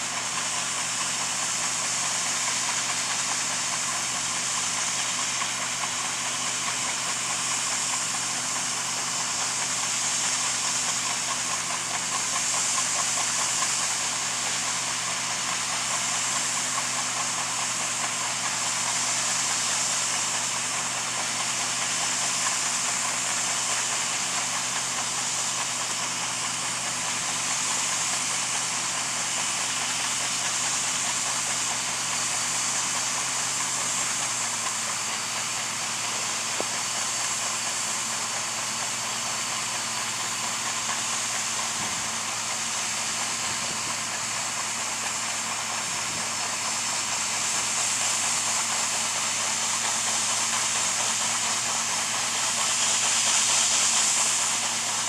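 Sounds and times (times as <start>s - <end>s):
diesel machinery running: 0.0s - 55.0s
strong even hiss: 0.0s - 55.0s.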